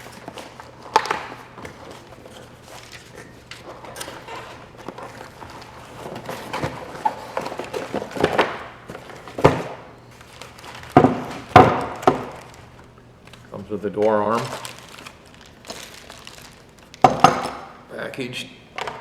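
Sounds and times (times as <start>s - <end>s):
packaging rustling and clicks: 0.0s - 17.6s.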